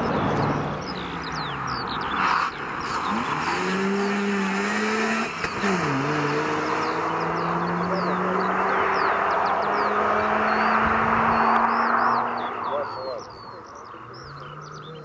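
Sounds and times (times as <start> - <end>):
rotary engine accelerating: 0.0 - 13.2
birds chirping: 0.0 - 15.0.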